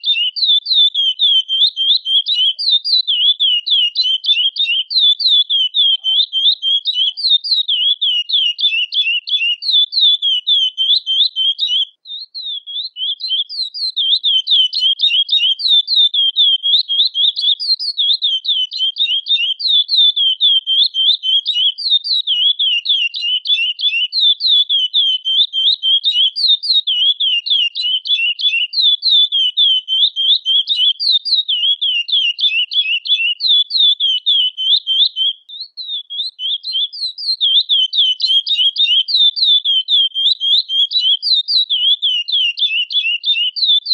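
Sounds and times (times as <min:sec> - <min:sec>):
finch calling high sharp notes: 0:00.0 - 0:43.9.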